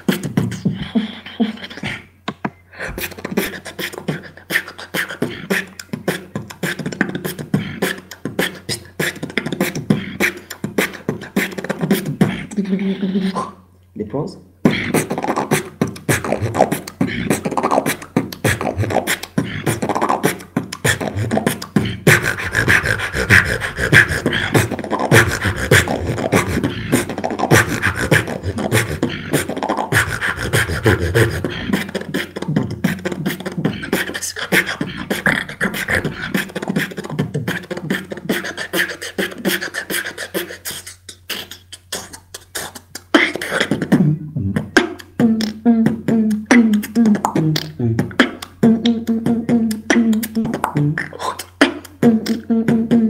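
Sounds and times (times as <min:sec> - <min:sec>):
beatboxing: 0:00.0 - 0:53.0
held high vocal tone: 0:02.8 - 0:53.0.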